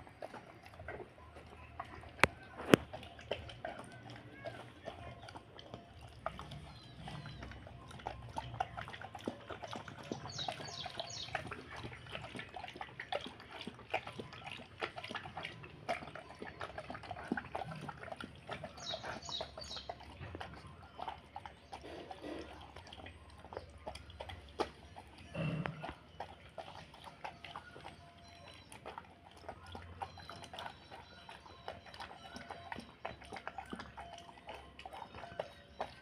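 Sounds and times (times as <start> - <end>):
dog chewing with wet smacks: 0.0 - 36.0.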